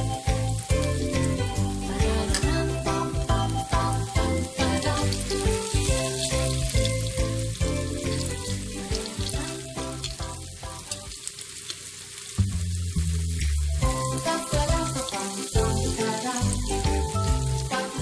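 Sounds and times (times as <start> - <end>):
background music: 0.0 - 11.2, 13.6 - 18.0
tofu sizzling in oil: 0.0 - 18.0.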